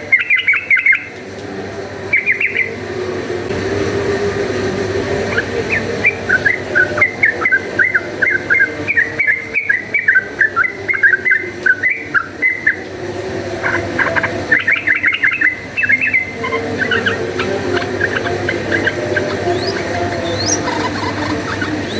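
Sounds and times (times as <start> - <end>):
bird chattering song: 0.0 - 1.1, 2.1 - 2.8, 5.2 - 13.0, 13.6 - 21.9.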